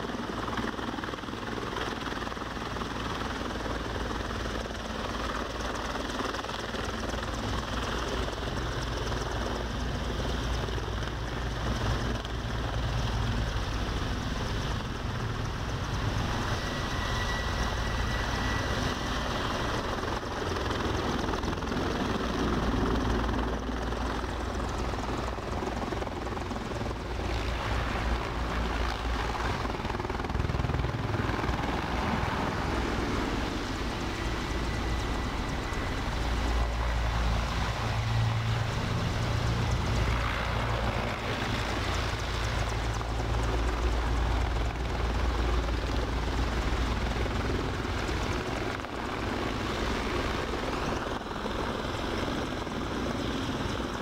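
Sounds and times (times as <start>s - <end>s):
helicopter flying low: 0.0s - 54.0s.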